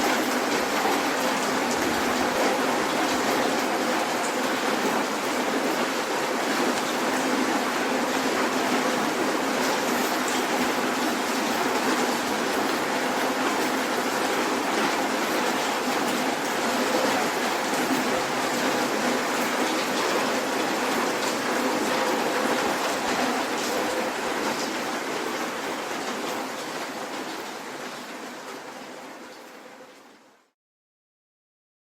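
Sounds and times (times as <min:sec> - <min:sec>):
soft rain hiss: 0:00.0 - 0:30.6.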